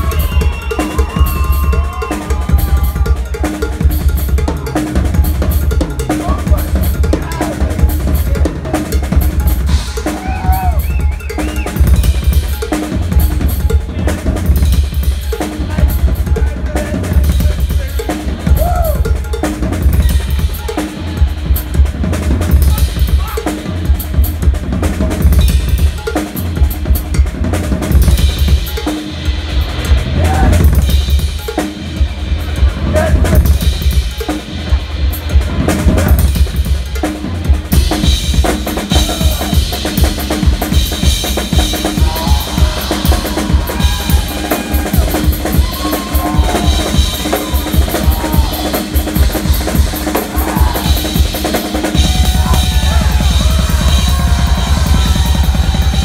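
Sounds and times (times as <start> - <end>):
drum kit played busily: 0.0 - 56.0.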